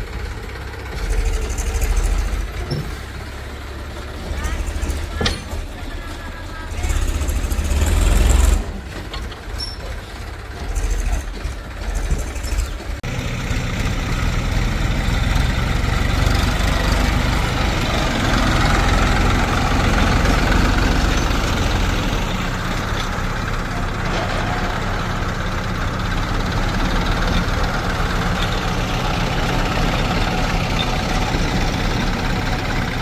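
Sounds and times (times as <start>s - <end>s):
heavy diesel machinery engines: 0.0s - 33.0s.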